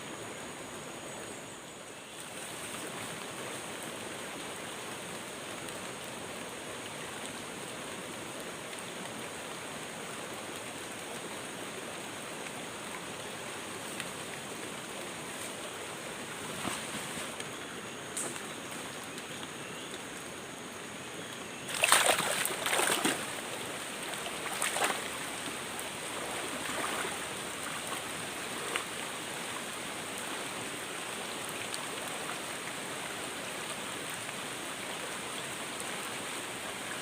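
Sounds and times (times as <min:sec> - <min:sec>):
rushing water: 0:00.0 - 0:37.0.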